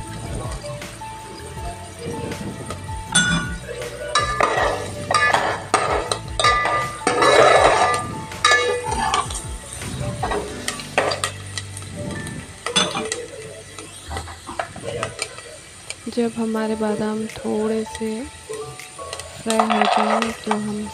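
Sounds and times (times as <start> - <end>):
almonds sizzling in oil: 0.0 - 20.9.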